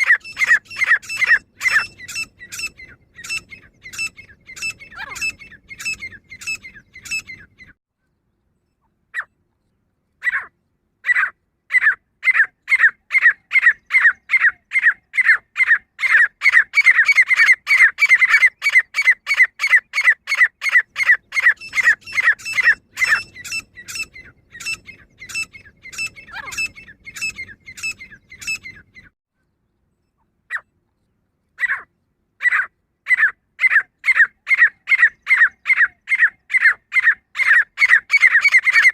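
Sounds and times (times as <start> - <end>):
francolin calling: 0.0 - 7.8, 11.1 - 29.1, 31.6 - 38.9.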